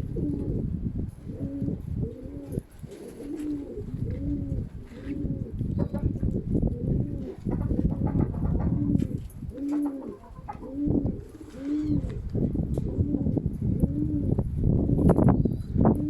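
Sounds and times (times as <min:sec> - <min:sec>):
pigeons cooing: 0:00.0 - 0:14.4
wind buffeting microphone: 0:00.0 - 0:16.0.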